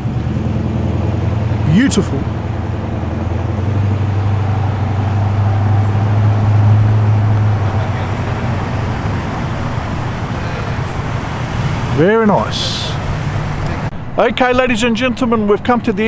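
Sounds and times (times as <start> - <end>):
car engine running: 0.0 - 16.0
traffic noise: 0.0 - 16.0.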